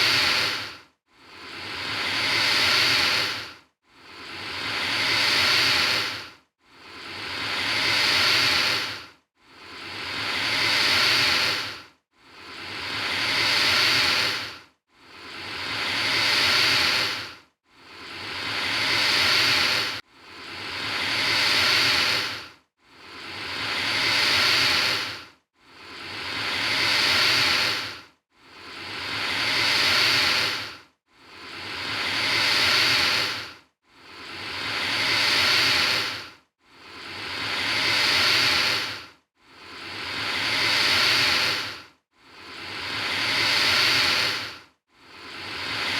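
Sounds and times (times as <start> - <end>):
alligator hissing: 0.0 - 3.5, 4.1 - 6.2, 6.9 - 9.0, 9.7 - 11.8, 12.4 - 14.5, 15.2 - 17.3, 17.9 - 22.4, 23.1 - 28.0, 28.6 - 36.2, 36.9 - 39.0, 39.7 - 41.8, 42.4 - 44.6, 45.3 - 45.9.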